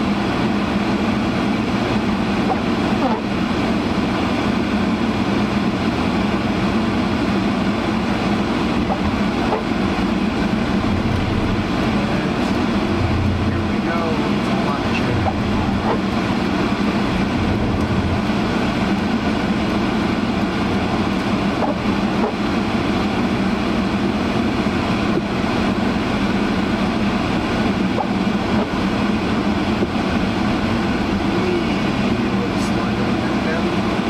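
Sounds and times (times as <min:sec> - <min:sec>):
defroster fan rushing: 0:00.0 - 0:34.0.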